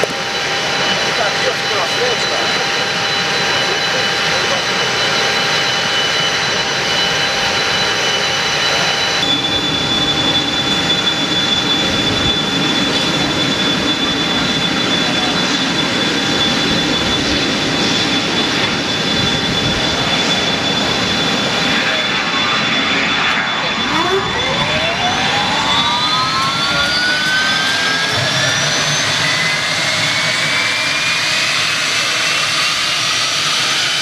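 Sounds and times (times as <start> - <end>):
jet engines idling with whine: 0.0 - 34.0.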